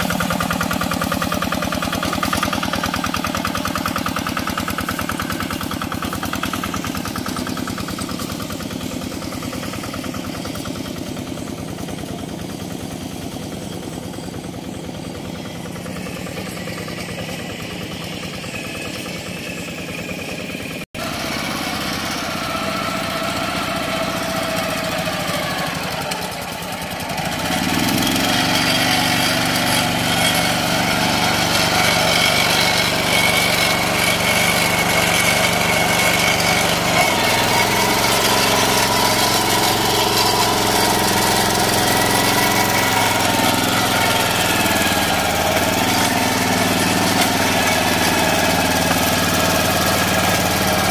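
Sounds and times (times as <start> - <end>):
hand tractor engine running: 0.0 - 50.9.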